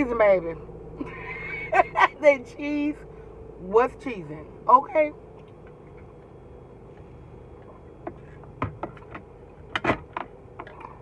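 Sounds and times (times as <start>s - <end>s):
low hum of car cabin: 0.0s - 11.0s.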